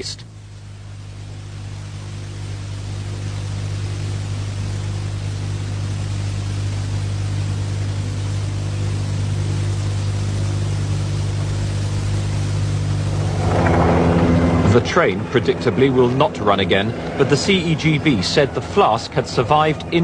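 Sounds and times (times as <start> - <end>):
train engine droning: 0.0 - 20.0.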